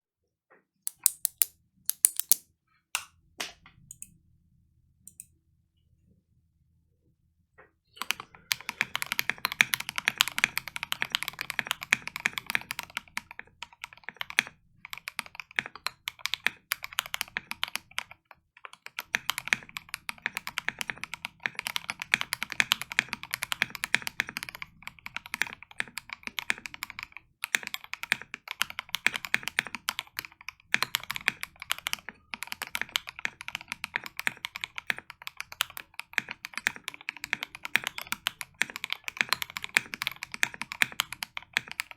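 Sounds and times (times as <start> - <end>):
fast mechanical keyboard typing: 0.9 - 2.4, 8.0 - 18.1, 18.7 - 41.9.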